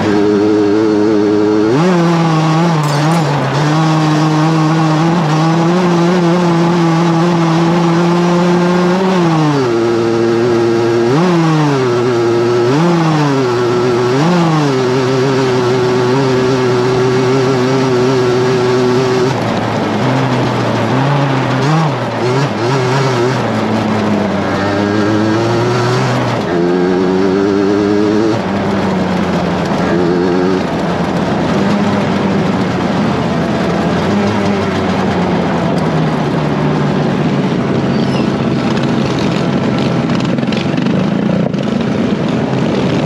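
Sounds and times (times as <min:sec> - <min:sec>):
racing lawnmower engine revving: 0:00.0 - 0:43.0.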